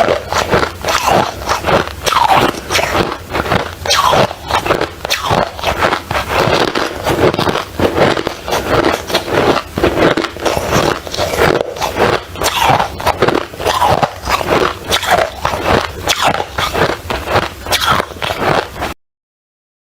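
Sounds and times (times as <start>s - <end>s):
ice crunching: 0.0s - 19.0s.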